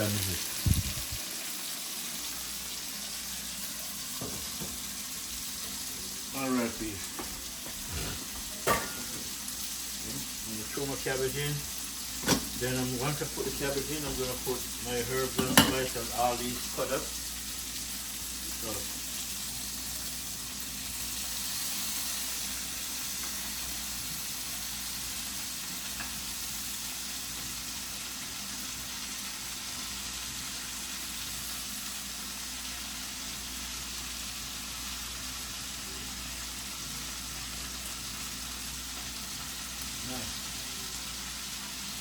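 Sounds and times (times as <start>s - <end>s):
chicken sizzling in a pot: 0.0s - 42.0s.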